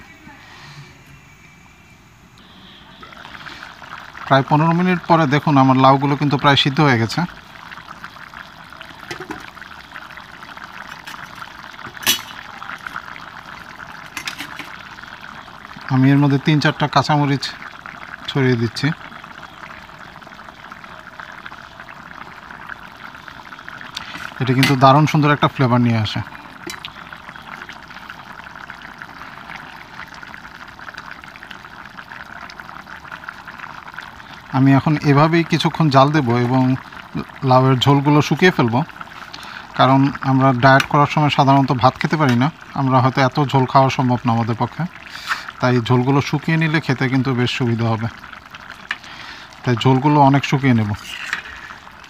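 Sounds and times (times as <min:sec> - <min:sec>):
curry bubbling in a pot: 0:02.4 - 0:52.0.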